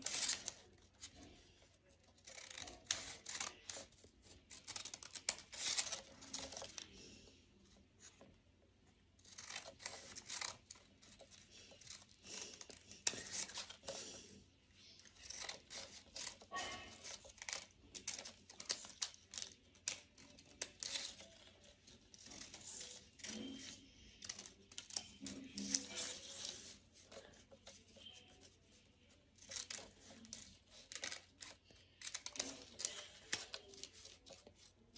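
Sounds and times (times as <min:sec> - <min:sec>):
scissors snipping paper: 0:00.0 - 0:07.2, 0:09.2 - 0:14.2, 0:14.9 - 0:34.9.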